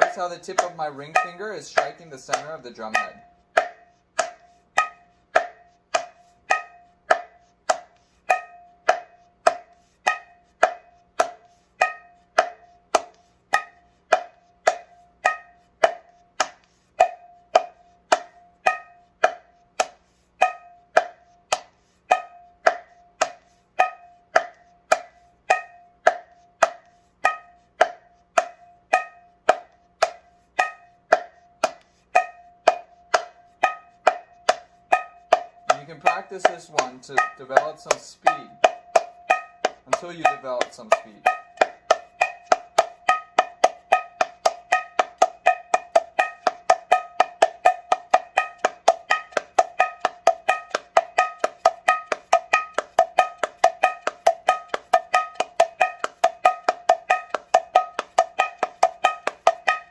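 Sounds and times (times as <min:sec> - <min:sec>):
hand drum finger strokes: 0:00.0 - 0:59.9.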